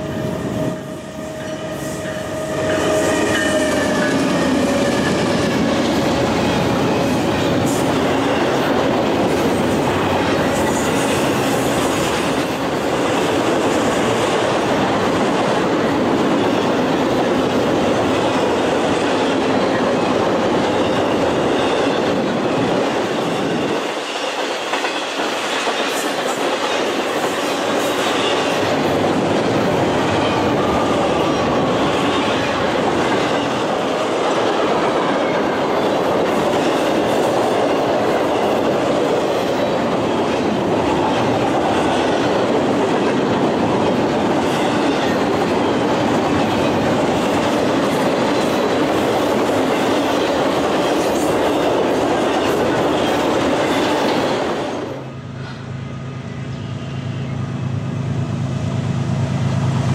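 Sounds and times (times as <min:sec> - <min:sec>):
train wheels rolling over rails: 0:00.0 - 0:55.6.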